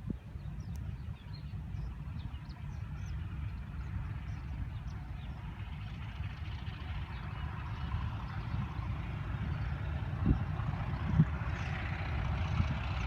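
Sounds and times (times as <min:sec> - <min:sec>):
locomotive engine rumbling: 0:00.7 - 0:13.0.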